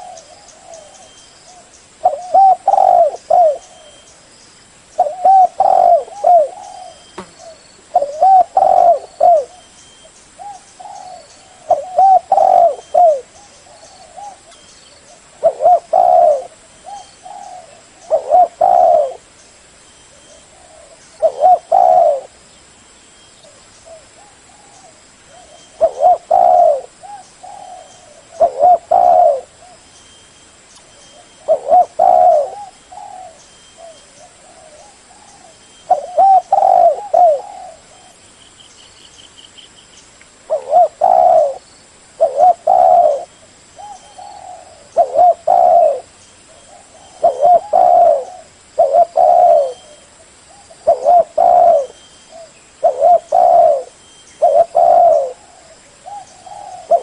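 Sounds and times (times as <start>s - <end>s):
dove cooing: 0.0s - 4.1s, 5.0s - 9.7s, 10.4s - 19.3s, 20.2s - 22.4s, 23.5s - 29.8s, 31.1s - 38.2s, 40.5s - 41.6s, 42.2s - 57.0s.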